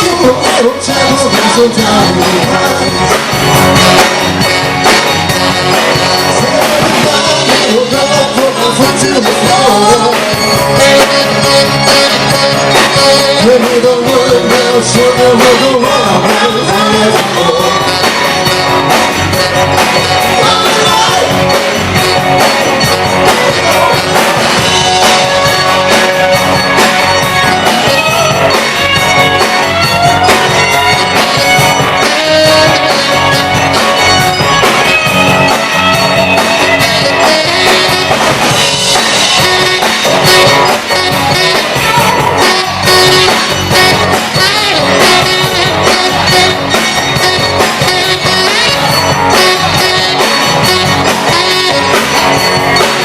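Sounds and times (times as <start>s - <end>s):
rock band playing instrumental: 0.0s - 53.0s.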